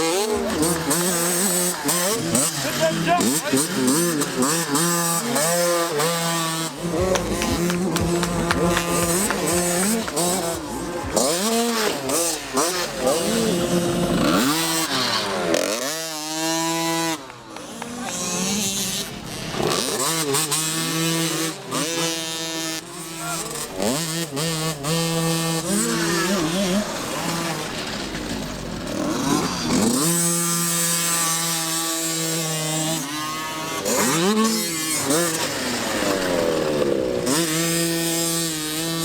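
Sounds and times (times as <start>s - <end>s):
two-stroke motocross engines revving: 0.0s - 39.0s.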